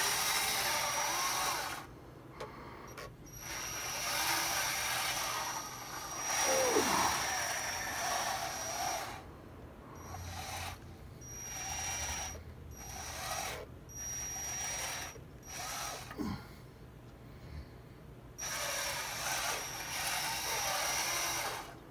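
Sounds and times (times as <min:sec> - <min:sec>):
small electric motors whirring: 0:00.0 - 0:01.9, 0:02.9 - 0:09.3, 0:10.0 - 0:16.2, 0:18.4 - 0:21.8.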